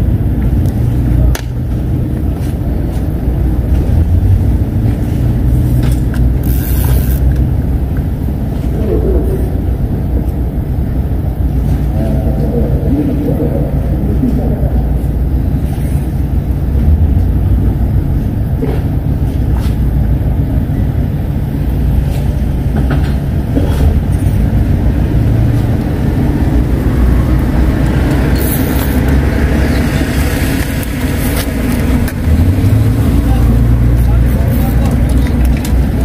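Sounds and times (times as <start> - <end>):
low rumble: 0.0 - 36.0.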